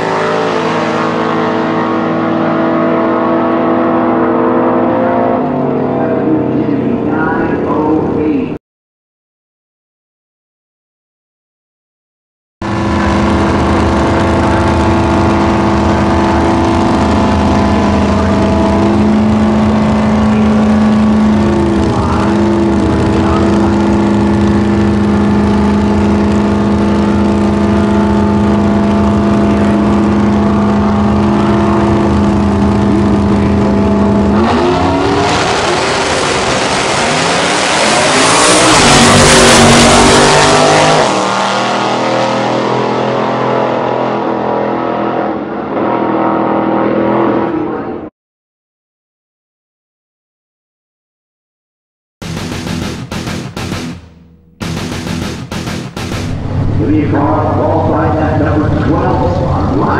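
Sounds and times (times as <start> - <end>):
truck engines revving and accelerating: 0.0 - 8.6, 12.6 - 48.1, 54.6 - 59.9.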